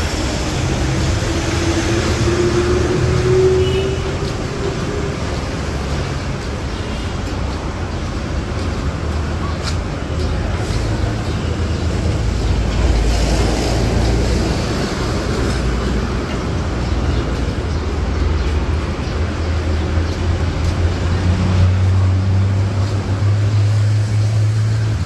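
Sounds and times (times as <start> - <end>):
road noise: 0.0 - 25.0
vehicle engines running: 0.0 - 25.0.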